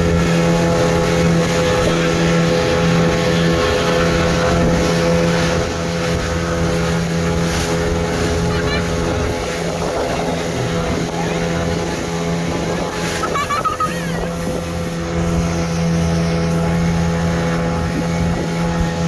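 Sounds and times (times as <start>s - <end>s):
motor boat engine humming: 0.0s - 19.0s
wind buffeting microphone: 0.0s - 19.0s.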